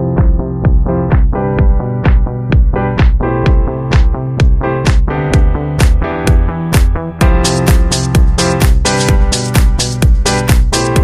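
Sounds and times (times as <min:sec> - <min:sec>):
electronic dance music: 0:00.0 - 0:11.0
held synth chords: 0:00.0 - 0:11.0
kick drum: 0:00.0 - 0:11.0.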